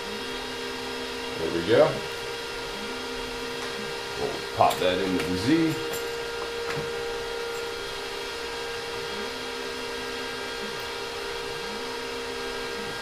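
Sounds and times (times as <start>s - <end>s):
cooling fan humming: 0.0s - 13.0s
stepper motor whine: 0.0s - 13.0s.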